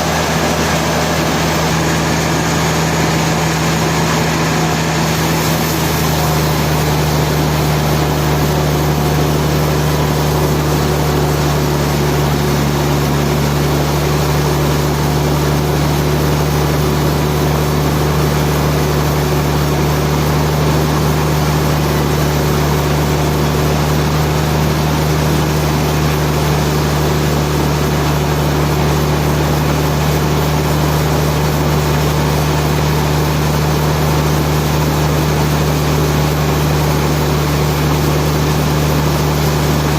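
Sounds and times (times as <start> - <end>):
heavy machinery humming: 0.0 - 39.9.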